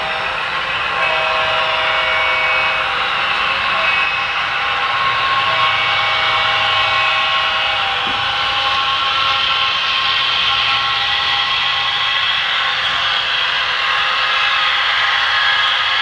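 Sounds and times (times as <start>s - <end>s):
model train mechanical drone: 0.0s - 16.0s
whining tones: 0.0s - 16.0s.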